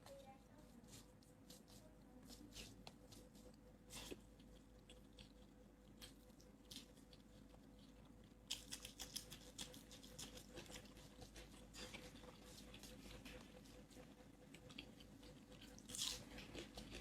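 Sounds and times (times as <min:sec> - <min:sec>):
chewing and handling food: 0:00.0 - 0:17.0.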